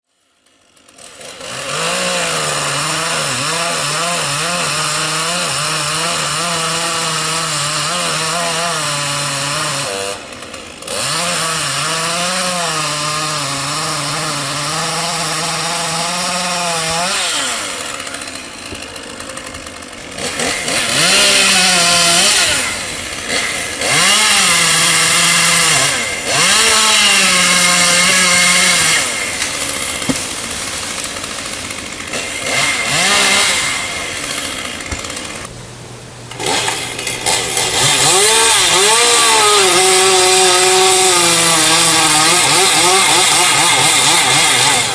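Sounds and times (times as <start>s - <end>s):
chainsaw cutting wood: 0.1s - 35.6s, 36.3s - 44.9s.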